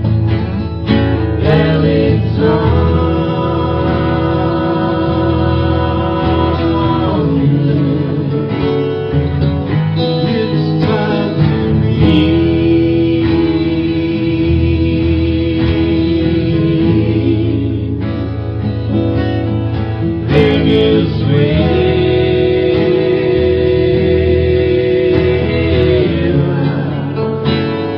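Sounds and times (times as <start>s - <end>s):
acoustic folk band playing: 0.0s - 27.9s
acoustic guitar strumming: 0.0s - 27.9s.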